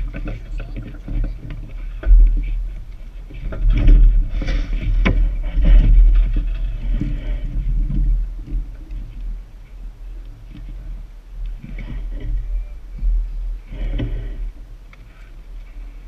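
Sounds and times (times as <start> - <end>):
heavy low rumble: 0.0 - 16.0
knocks and scrapes in boat hull: 0.0 - 16.0.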